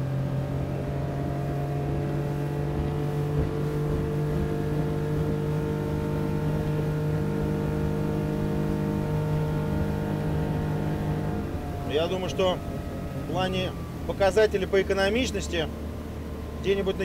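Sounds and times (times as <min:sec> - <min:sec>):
outboard motor running at high speed: 0:00.0 - 0:17.0.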